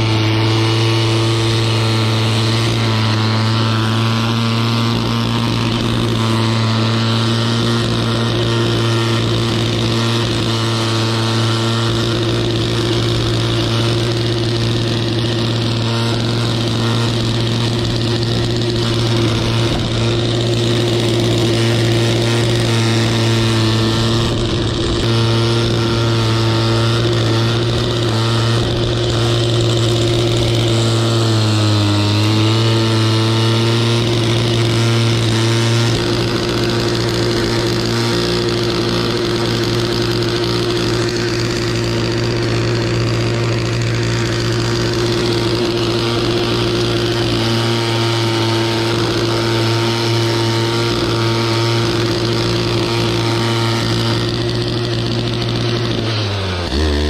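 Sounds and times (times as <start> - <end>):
grass mower engine running: 0.0 - 57.0.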